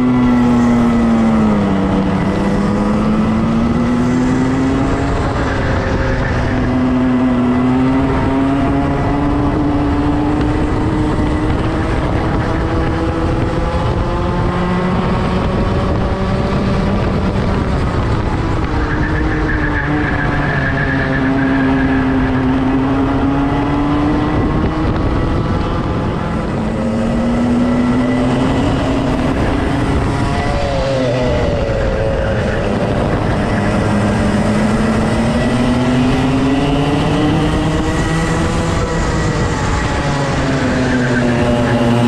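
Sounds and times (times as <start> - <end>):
kart engine at speed: 0.0 - 42.0.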